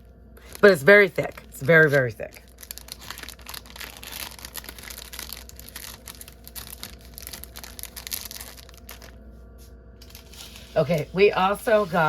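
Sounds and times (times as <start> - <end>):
packaging crinkling: 0.4 - 9.3, 10.0 - 12.0.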